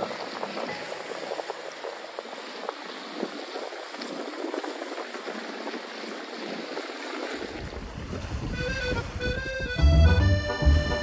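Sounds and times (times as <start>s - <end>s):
waves washing on rocks: 0.0s - 10.2s.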